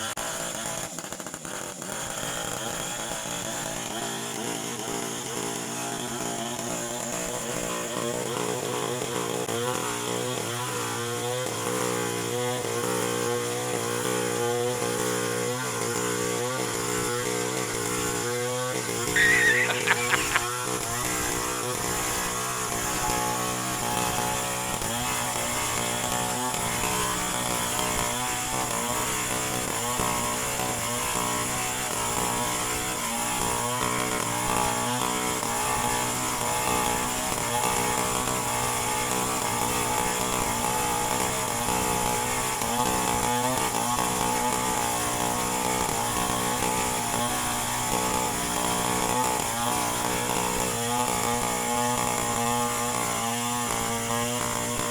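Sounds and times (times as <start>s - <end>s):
chainsaw engine running: 0.0s - 54.9s.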